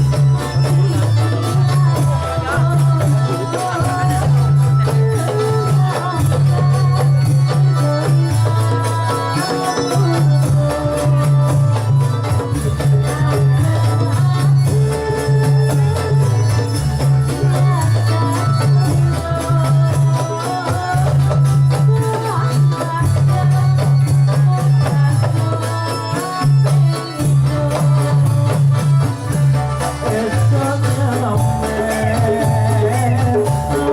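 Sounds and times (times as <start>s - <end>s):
hand drums: 0.0s - 33.9s
jingling percussion: 0.0s - 33.9s
melodic instruments: 0.0s - 33.9s.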